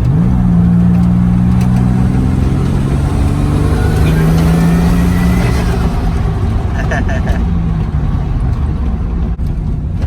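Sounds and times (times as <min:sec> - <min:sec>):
car engine cruising: 0:00.0 - 0:10.0.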